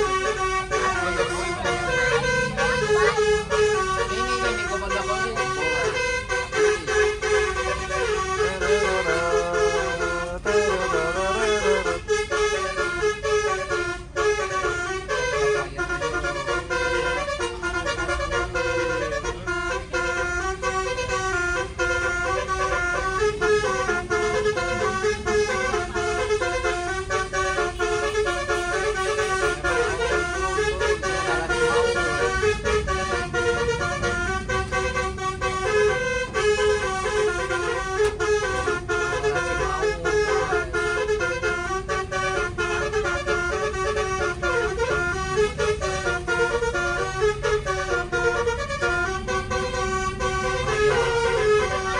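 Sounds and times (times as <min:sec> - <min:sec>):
bus air horns playing melody: 0:00.0 - 0:51.9
bus engine rumble: 0:00.0 - 0:51.9.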